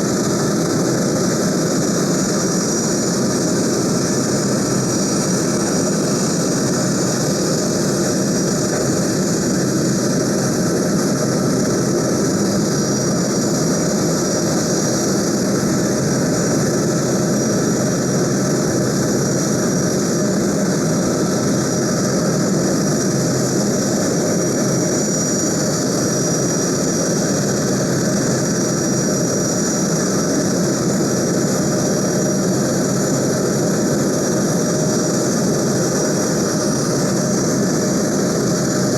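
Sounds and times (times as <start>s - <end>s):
high engine whine: 0.0s - 38.9s
jet engines running: 0.0s - 38.9s.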